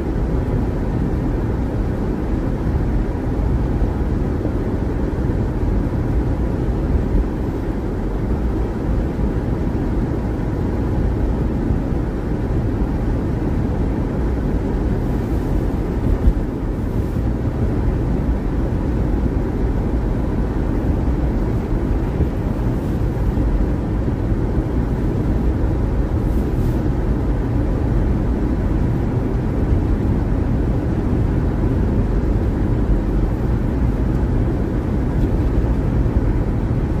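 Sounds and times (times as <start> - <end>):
car engine: 0.0 - 37.0
tyres on snowy road: 0.0 - 37.0.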